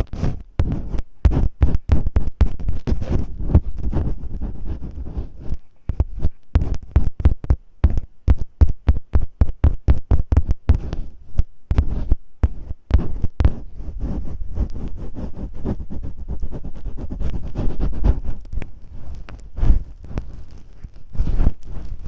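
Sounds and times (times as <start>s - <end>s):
masking tape scratching microphone: 0.0s - 22.0s.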